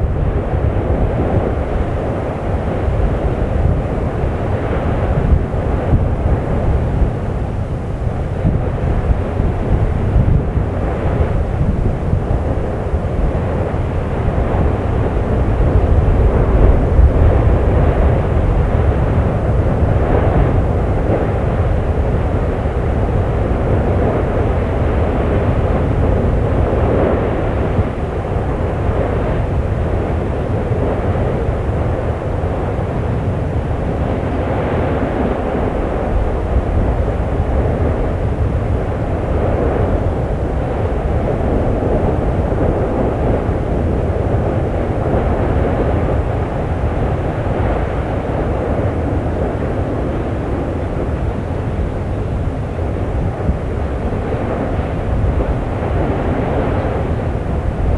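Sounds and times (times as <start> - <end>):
erupting volcano deep rumble: 0.0 - 57.9.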